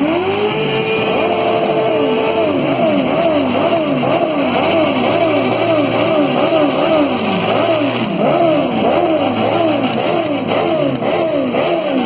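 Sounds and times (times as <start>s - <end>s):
wavering pitched vehicle tone: 0.0s - 10.0s.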